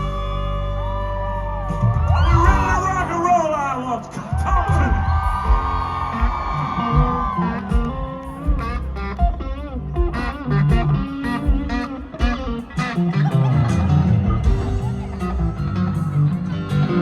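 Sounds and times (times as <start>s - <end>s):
bass guitar: 0.0s - 17.0s
drums: 0.0s - 17.0s
electric guitar lead: 0.0s - 17.0s.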